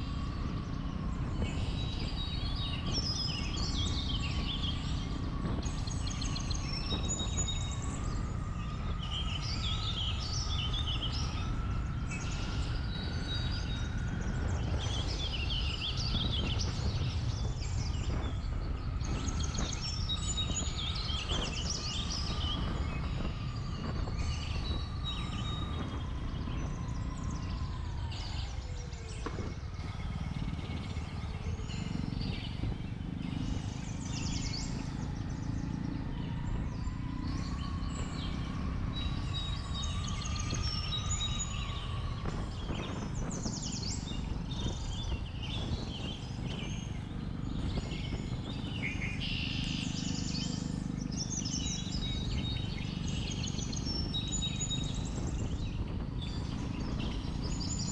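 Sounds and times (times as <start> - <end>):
birds chirping: 0.0 - 57.9
motorcycle engine rumble: 0.0 - 57.9.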